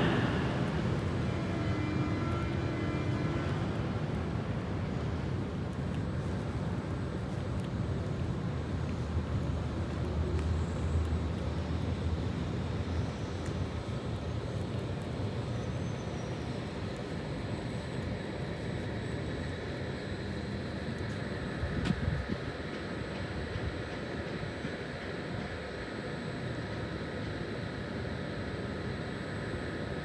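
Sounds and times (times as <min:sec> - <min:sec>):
faint high whine: 0:00.0 - 0:05.2, 0:08.6 - 0:30.0
train humming and rumbling: 0:00.0 - 0:30.0.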